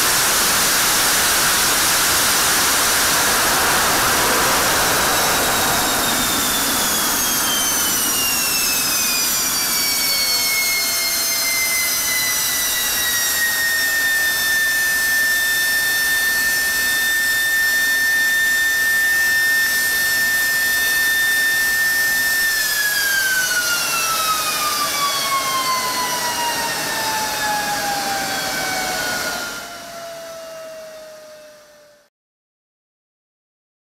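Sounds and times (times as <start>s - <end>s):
jet engine high whine: 0.0s - 32.1s
jet engine roar: 0.0s - 32.1s.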